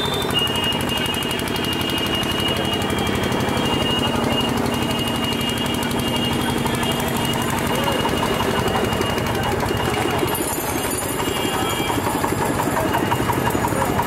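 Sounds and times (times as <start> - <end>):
crowded market street din: 0.0 - 14.0
rickshaw rattling on rough street: 0.0 - 14.0
thin high tone: 0.0 - 14.0.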